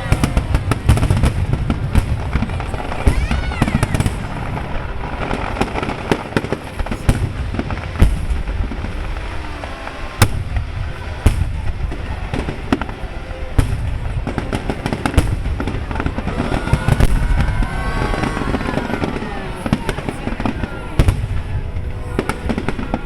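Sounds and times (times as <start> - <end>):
low rumble of explosions: 0.0 - 23.0.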